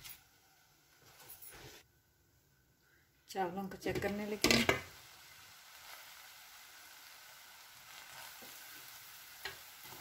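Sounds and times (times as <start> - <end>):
food sizzling in a pan: 0.0 - 1.8, 3.7 - 10.0.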